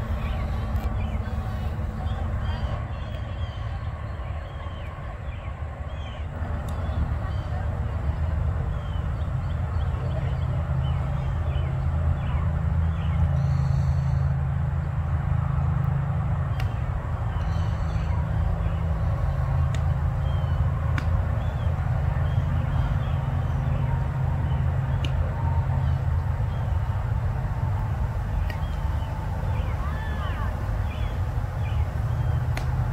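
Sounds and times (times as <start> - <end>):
low outdoor rumble: 0.0 - 32.9.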